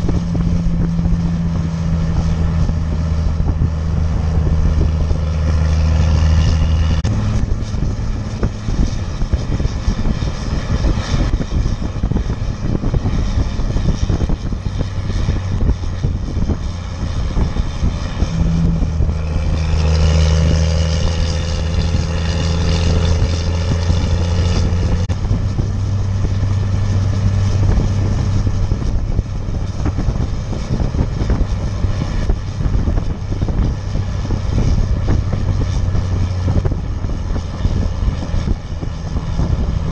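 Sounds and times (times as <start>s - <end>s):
diesel engine under heavy load: 0.0s - 39.9s.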